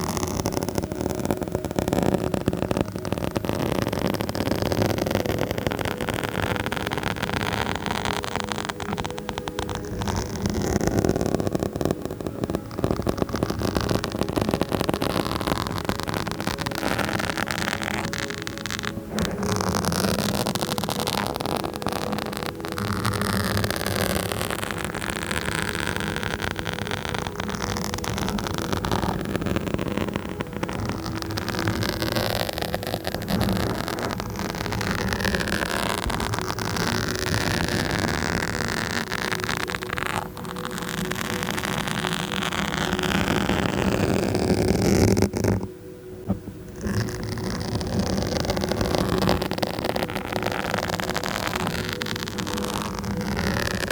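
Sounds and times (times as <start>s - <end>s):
scratching on microphone: 0.0s - 53.9s.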